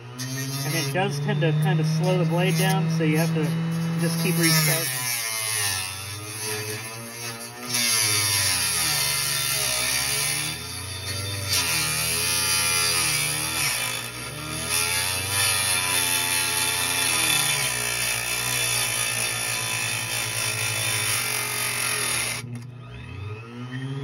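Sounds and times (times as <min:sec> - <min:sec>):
table saw cutting plastic: 0:00.0 - 0:24.0.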